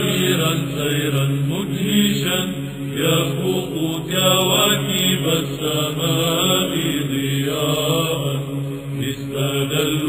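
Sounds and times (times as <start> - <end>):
choir chanting a hymn: 0.0 - 10.0.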